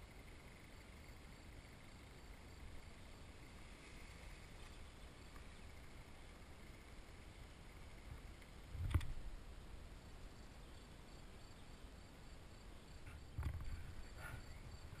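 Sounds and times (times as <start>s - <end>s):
faint insect chirring: 0.0s - 15.0s
low steady rumble: 0.0s - 15.0s.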